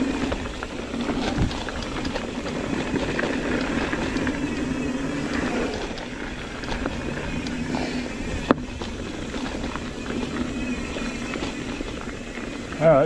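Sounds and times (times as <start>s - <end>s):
bike rattles and clicks: 0.0s - 13.0s
bike tyres rumbling on dirt: 0.0s - 13.0s.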